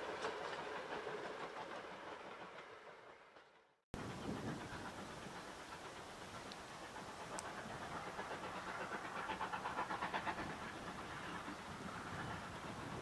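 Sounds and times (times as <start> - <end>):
distant steam locomotive exhaust beats: 0.0 - 13.0.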